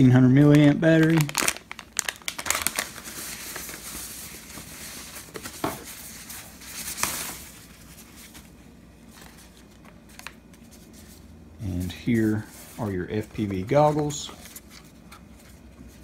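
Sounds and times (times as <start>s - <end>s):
wrapping crinkling and rustling: 0.0s - 16.0s.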